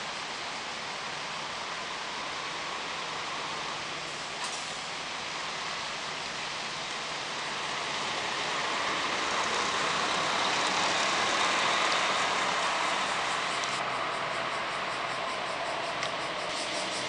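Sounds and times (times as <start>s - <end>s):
bus engine and tyre noise: 0.0s - 17.0s
steady hiss: 0.0s - 17.0s.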